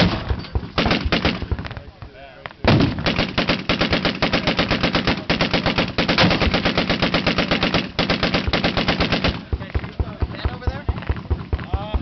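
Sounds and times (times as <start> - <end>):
machine gun firing automatic: 0.0 - 1.6, 2.7 - 11.7.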